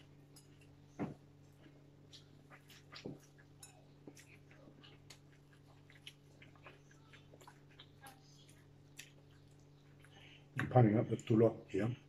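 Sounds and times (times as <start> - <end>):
low steady hum: 0.0 - 12.0
people chewing fried food: 0.0 - 12.0.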